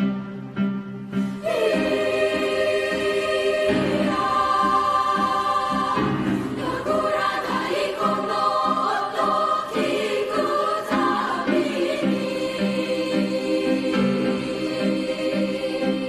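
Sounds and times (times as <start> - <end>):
piano accompaniment: 0.0 - 16.0
choir singing held chords: 1.2 - 16.0.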